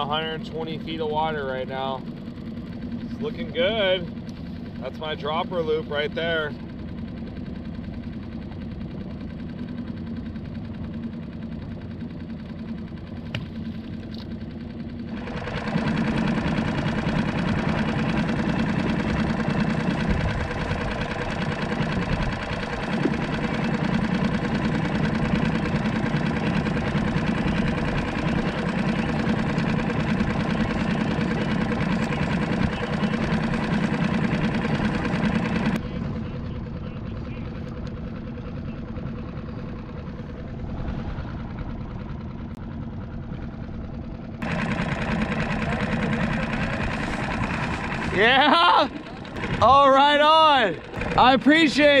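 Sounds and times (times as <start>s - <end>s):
outboard motor humming: 0.0s - 52.0s.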